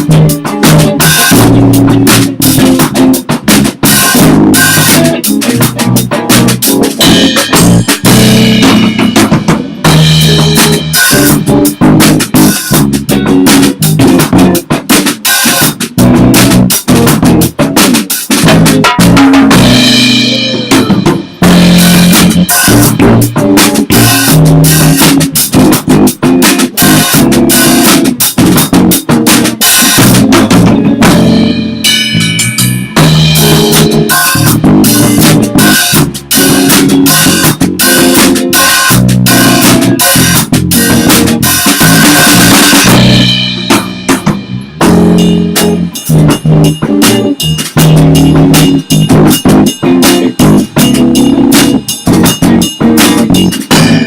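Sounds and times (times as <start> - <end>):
bass guitar: 0.0 - 54.0
drum kit hit hard: 0.0 - 54.0
electric guitar: 0.0 - 54.0.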